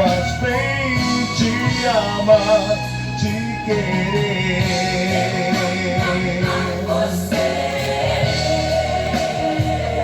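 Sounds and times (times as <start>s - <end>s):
ballad backing music: 0.0s - 10.0s.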